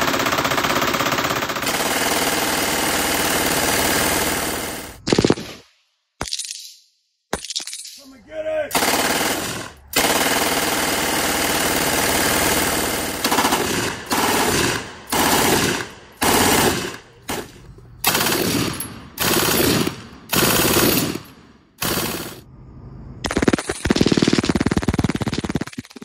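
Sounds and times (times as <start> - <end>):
machine gun firing bursts: 0.0 - 5.7, 8.7 - 22.5, 23.2 - 26.0.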